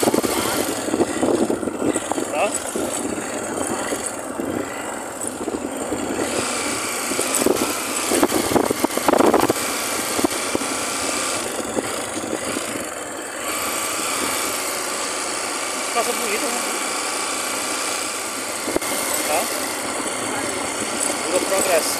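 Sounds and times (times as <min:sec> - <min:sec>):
motorcycle engine running: 0:00.0 - 0:21.9
road noise: 0:00.0 - 0:21.9
wind: 0:00.0 - 0:21.9.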